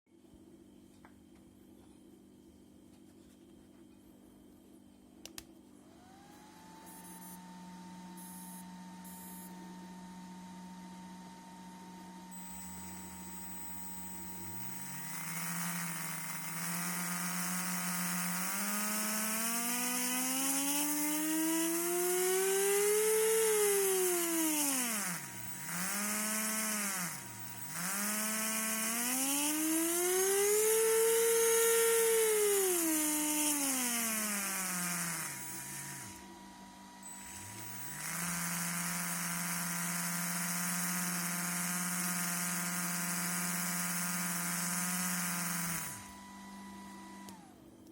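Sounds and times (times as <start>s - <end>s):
electric motor whining: 5.9s - 10.2s, 12.1s - 47.6s.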